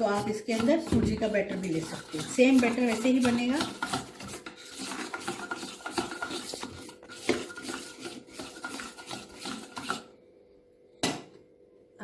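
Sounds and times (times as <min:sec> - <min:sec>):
batter stirred in steel bowl: 0:00.0 - 0:10.2.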